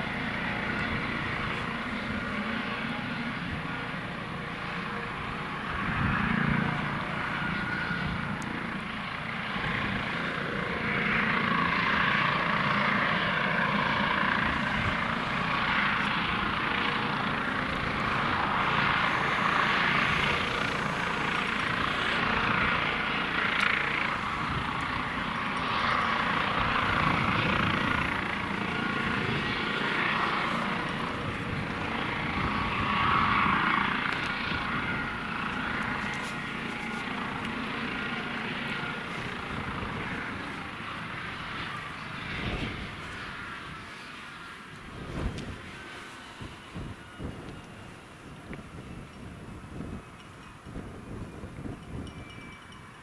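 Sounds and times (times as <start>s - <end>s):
helicopter rotor noise: 0.0s - 53.0s
helicopter turbine whine: 0.0s - 53.0s.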